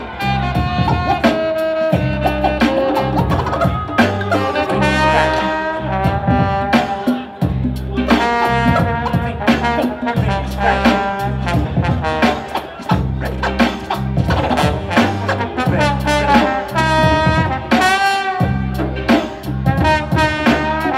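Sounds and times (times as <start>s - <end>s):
heavy bass line: 0.0s - 20.9s
saxophone: 0.0s - 20.9s
trombone: 0.0s - 20.9s.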